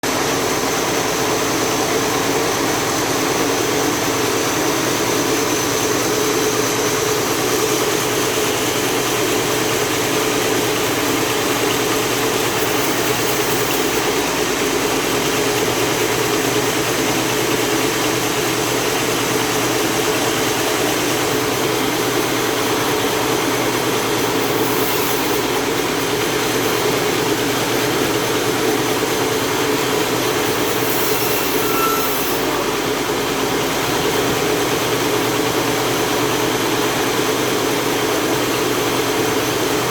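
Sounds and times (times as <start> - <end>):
sawing machine droning: 0.0 - 39.9.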